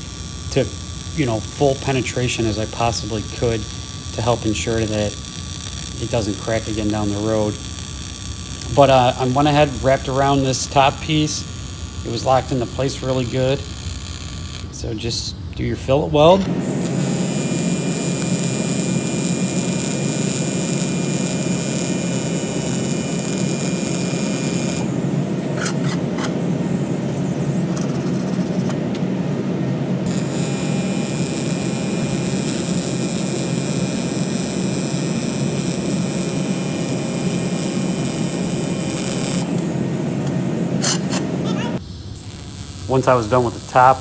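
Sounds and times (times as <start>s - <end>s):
welding arc buzzing: 0.0s - 44.0s.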